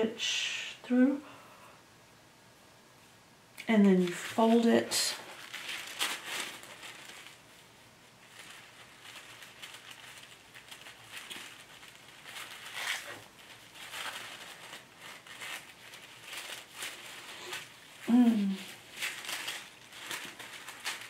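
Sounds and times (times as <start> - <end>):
tissue paper rustling and crinkling: 3.9 - 21.0.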